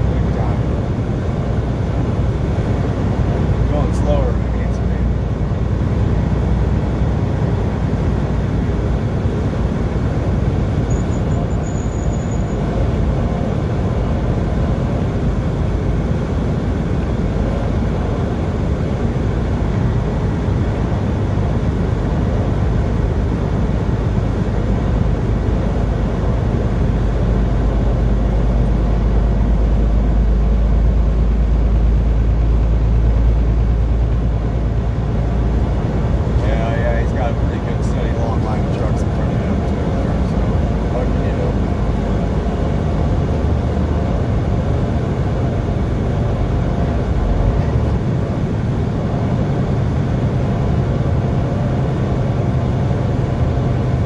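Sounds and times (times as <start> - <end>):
deep low rumble: 0.0 - 54.0
vehicle engine and road noise: 0.0 - 54.0.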